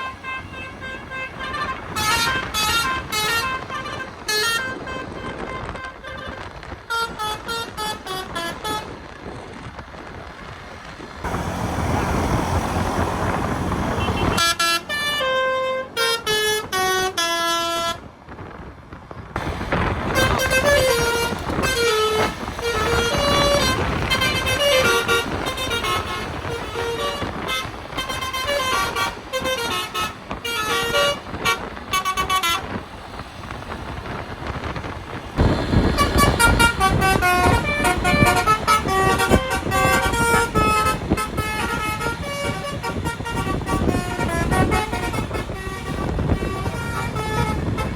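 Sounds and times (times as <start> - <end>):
musical horn playing tunes: 0.0 - 9.1, 12.3 - 18.1, 19.4 - 32.8, 35.4 - 47.9
bus engine and road rumble: 0.0 - 47.9.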